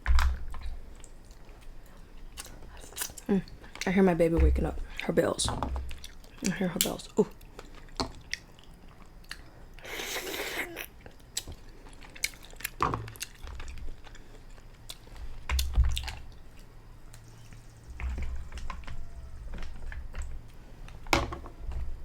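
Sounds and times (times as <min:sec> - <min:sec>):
chewing and mouth smacking: 0:00.4 - 0:03.9, 0:05.9 - 0:20.6.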